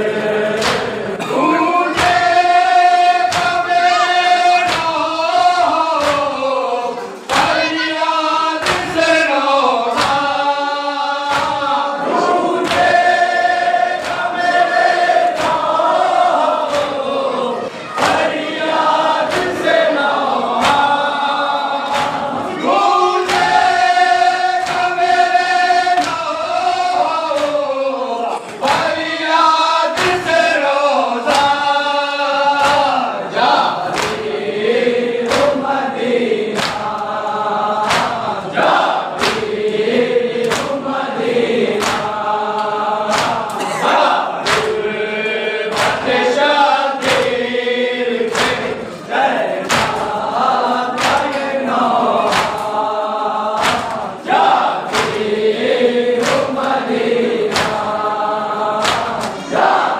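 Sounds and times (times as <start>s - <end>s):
men chanting a lament in chorus: 0.0s - 59.9s
hands slapping chests: 0.5s - 7.7s, 8.3s - 27.8s, 28.5s - 59.9s.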